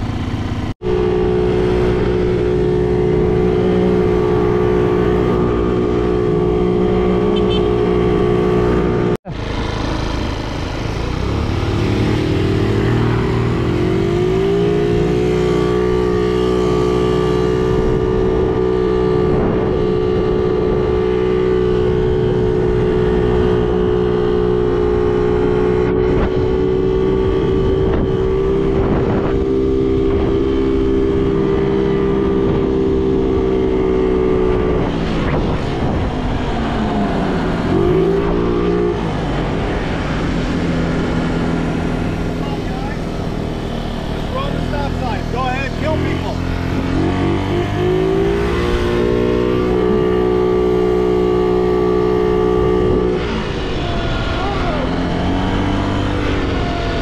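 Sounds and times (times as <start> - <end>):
moped engine revving: 0.0 - 57.0.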